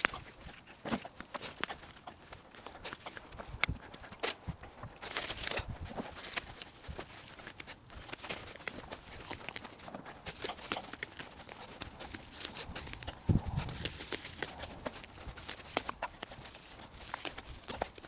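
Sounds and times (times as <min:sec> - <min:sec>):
scraping and rustling soil: 0:00.0 - 0:18.0.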